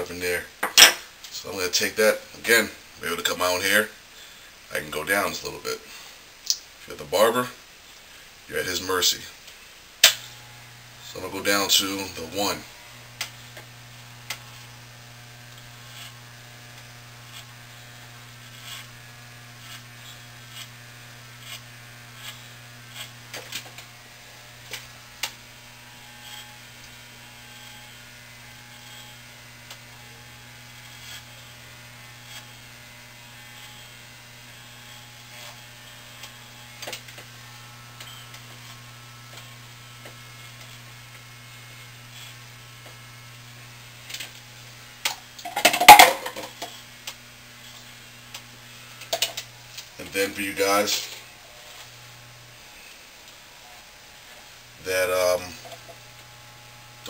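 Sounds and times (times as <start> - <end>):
electric hair clippers humming: 9.9 - 57.0.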